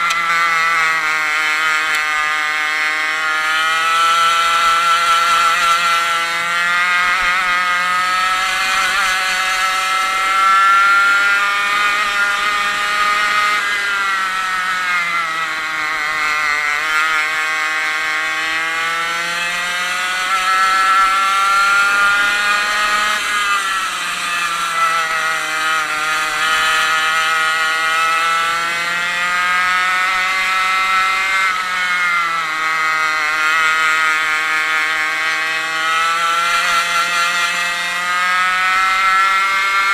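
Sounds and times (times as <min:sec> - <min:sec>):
two-stroke kart engine revving: 0:00.0 - 0:39.9.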